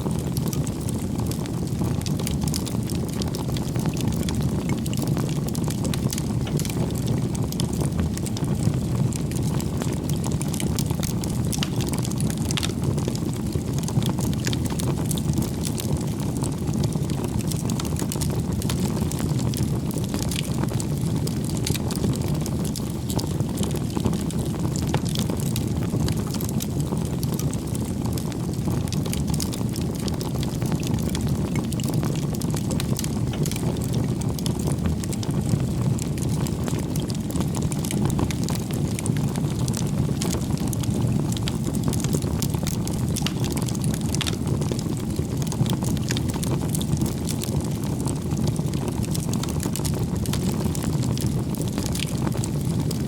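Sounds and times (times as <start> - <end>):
campfire flames rumbling: 0.0 - 53.0
firewood crackling and snapping: 0.3 - 53.0.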